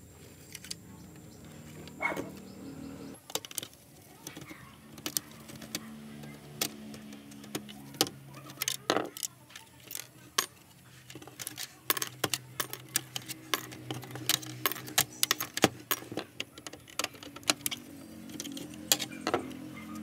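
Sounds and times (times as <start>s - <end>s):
plastic parts clicking and rattling: 3.2s - 20.0s.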